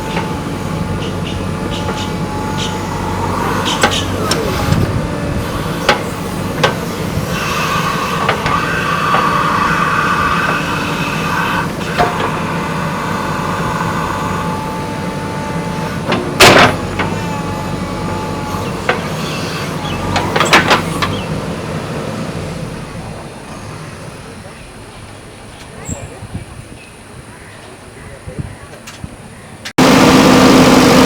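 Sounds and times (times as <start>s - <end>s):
diesel engine running under load: 0.0s - 27.2s, 29.8s - 31.0s
engine whine: 0.0s - 27.7s, 29.6s - 31.0s.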